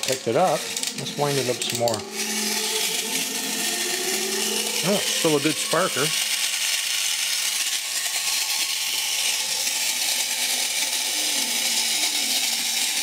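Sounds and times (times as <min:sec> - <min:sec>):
clockwork motor whirring: 0:00.0 - 0:13.0
flint sparker grinding: 0:00.0 - 0:13.0.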